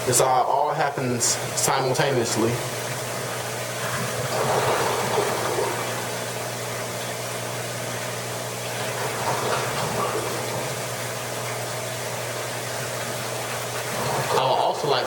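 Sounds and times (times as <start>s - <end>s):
pump humming: 0.0s - 15.0s
water rushing and gurgling: 0.0s - 15.0s.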